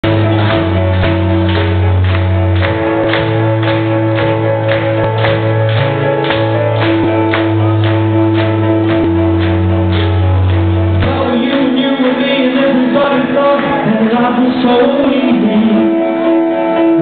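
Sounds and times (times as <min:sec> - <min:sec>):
band playing loud live music: 0:00.0 - 0:17.0.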